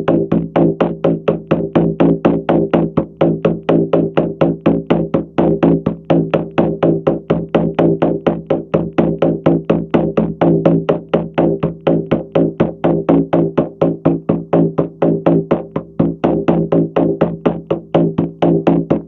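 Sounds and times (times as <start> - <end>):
drum beaten in fast rhythm: 0.0 - 19.0.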